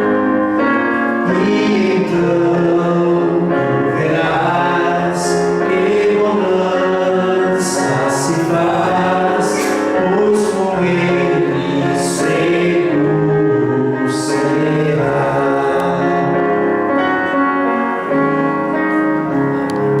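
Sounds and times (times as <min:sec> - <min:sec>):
instrumental accompaniment: 0:00.0 - 0:20.0
person singing a hymn: 0:00.0 - 0:20.0.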